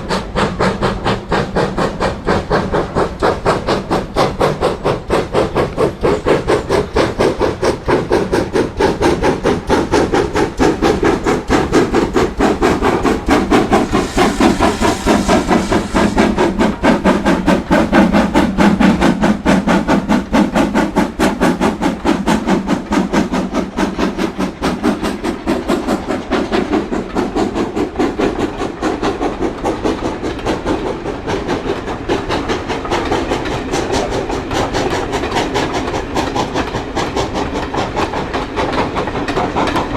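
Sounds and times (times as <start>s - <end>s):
steam hissing: 0.0s - 39.9s
steam locomotive chuffing: 0.0s - 39.9s.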